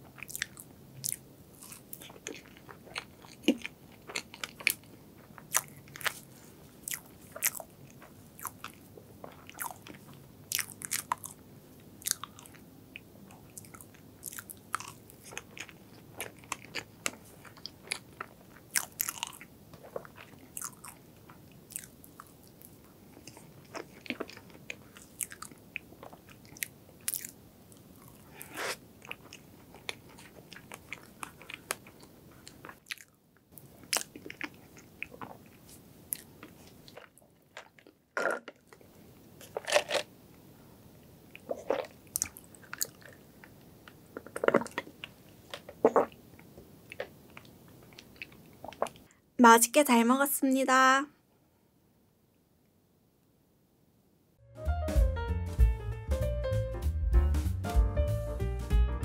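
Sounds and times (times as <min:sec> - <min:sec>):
wet chewing sounds: 0:00.0 - 0:11.4, 0:12.0 - 0:40.0, 0:41.3 - 0:49.1.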